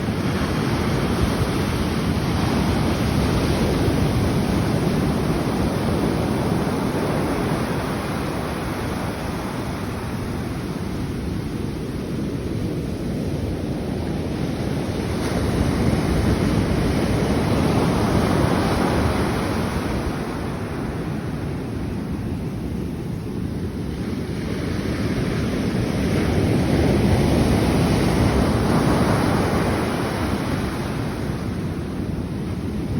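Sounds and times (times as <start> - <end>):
surf breaking on a beach: 0.0 - 32.9.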